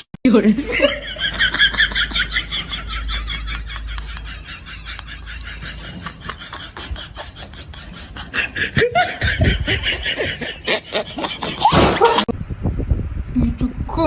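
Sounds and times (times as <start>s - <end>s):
laughter: 0.6s - 12.3s.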